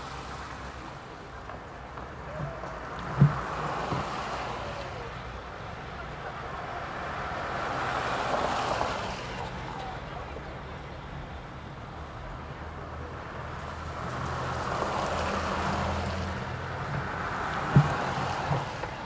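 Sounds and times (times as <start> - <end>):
road and tyre noise: 0.0 - 19.0.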